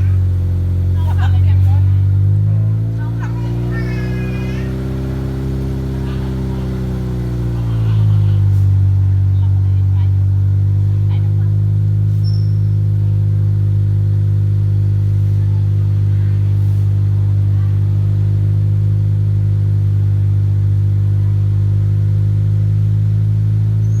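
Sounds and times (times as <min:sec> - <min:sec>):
car exhaust running steadily: 0:00.0 - 0:24.0.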